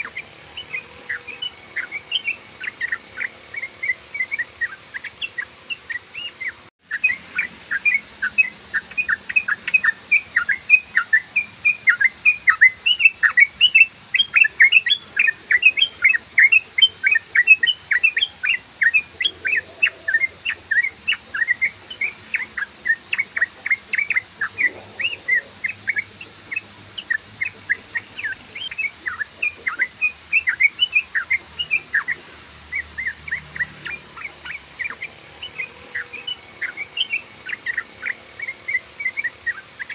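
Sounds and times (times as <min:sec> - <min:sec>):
bulbul singing rapid chatter: 0:00.0 - 0:39.9.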